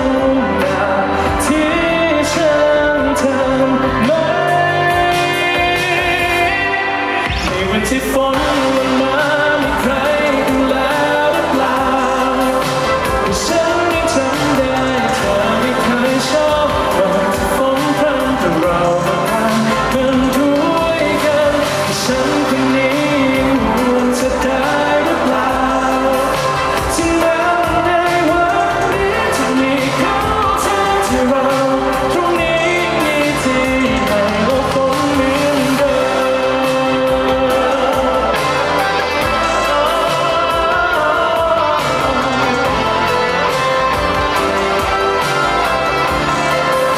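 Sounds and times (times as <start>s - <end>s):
man singing: 0.0s - 46.9s
pop backing music with drum beat: 0.0s - 46.9s.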